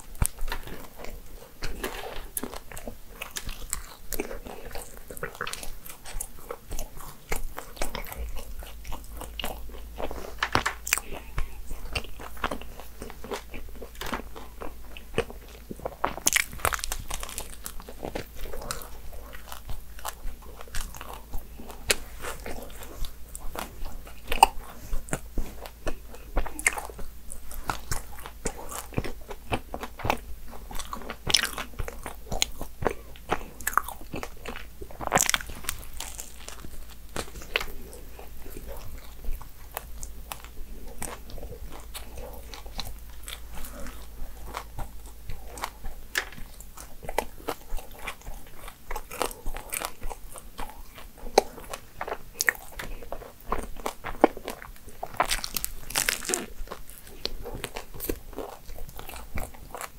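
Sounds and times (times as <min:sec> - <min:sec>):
flaky pastry crunching: 0:00.0 - 0:59.9
person chewing: 0:00.0 - 0:59.9.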